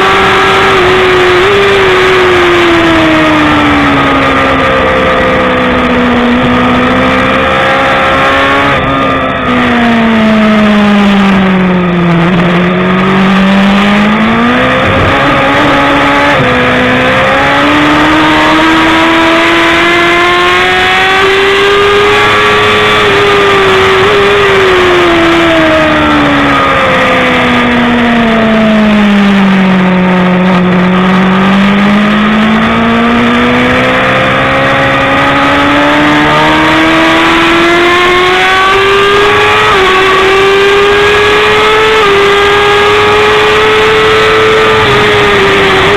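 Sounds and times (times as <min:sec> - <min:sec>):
motorcycle engine high-revving: 0:00.0 - 0:45.9.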